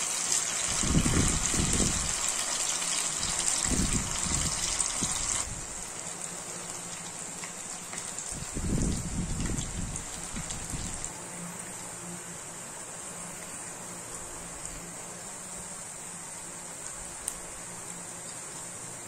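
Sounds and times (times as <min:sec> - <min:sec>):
meat deep-frying in hot oil: 0:00.0 - 0:19.0.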